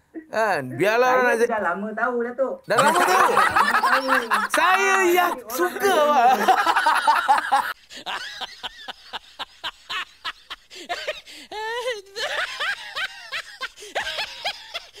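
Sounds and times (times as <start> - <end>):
person laughing: 2.7 - 15.0.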